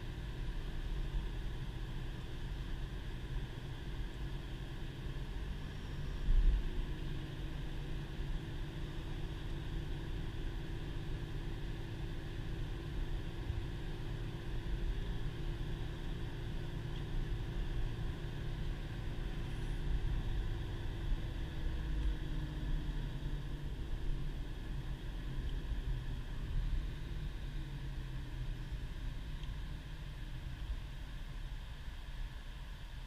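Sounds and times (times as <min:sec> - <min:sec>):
car engine hum: 0:00.0 - 0:33.0
tyre and road noise on snow: 0:00.0 - 0:33.0.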